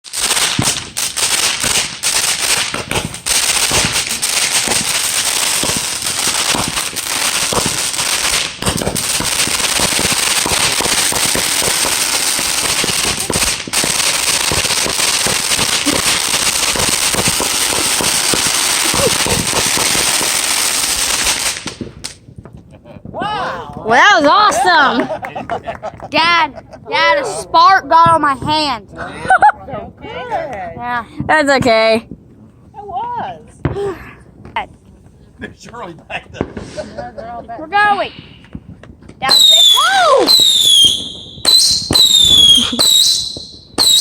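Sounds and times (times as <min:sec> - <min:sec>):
firework pops and crackles: 0:00.0 - 0:26.2, 0:33.6 - 0:36.9, 0:37.8 - 0:44.0.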